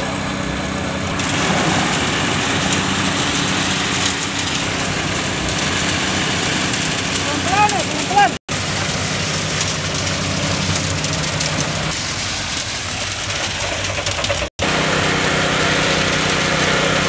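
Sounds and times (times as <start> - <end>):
diesel truck engine running: 0.0 - 17.0
wet concrete rushing down chute: 1.2 - 17.0.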